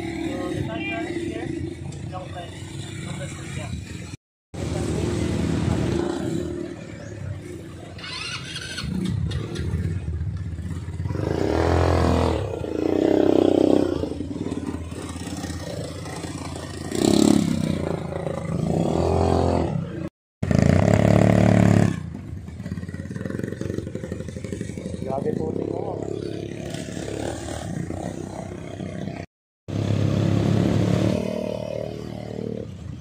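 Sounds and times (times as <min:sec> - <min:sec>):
quad bike engines revving: 0:00.0 - 0:33.0.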